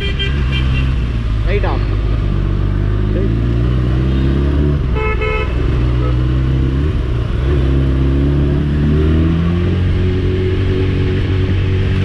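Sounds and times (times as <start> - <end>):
motorcycle engine accelerating: 1.9 - 12.0.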